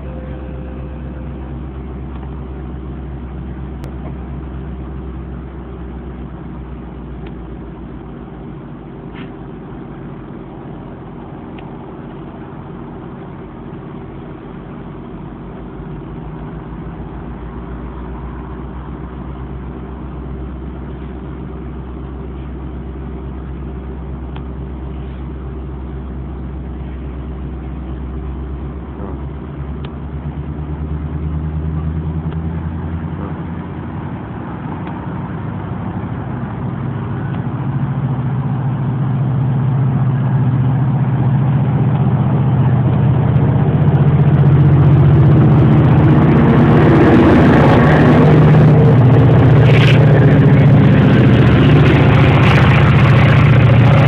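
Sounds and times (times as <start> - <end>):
diesel locomotive humming: 0.0 - 54.0.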